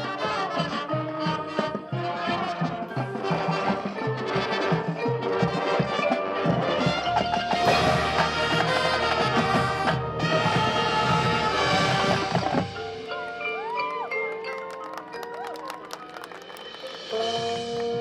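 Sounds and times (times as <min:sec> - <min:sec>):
marching band brass playing: 0:00.0 - 0:18.0.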